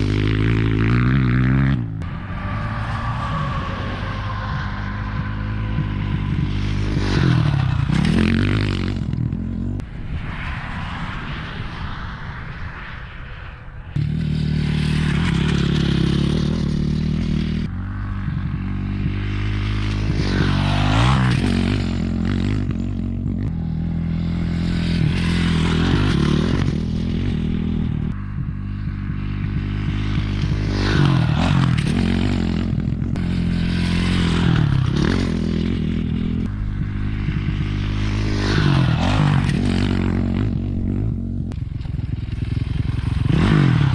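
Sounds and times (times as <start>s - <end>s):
dirt bike engine revving: 0.0s - 9.8s, 14.0s - 43.9s.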